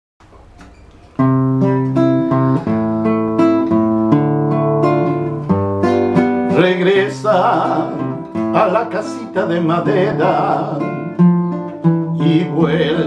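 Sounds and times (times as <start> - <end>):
acoustic guitar strumming chords: 0.2 - 13.0.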